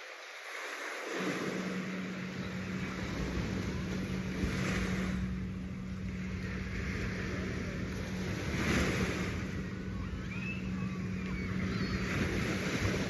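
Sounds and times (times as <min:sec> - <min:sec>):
surf washing on a beach: 0:00.0 - 0:13.0
steady low hum: 0:01.3 - 0:13.0.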